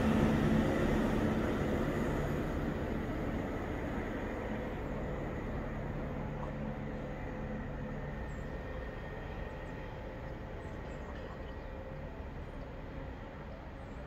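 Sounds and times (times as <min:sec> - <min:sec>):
faint steady tones: 0:00.0 - 0:14.0
low train rumble: 0:00.0 - 0:14.0.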